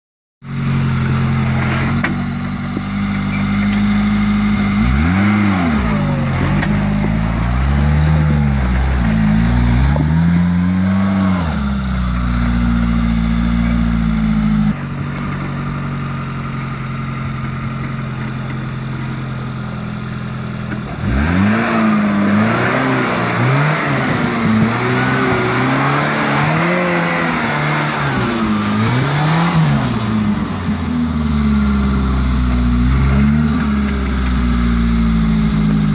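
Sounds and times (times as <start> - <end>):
off-road vehicle engine revving: 0.4 - 35.9.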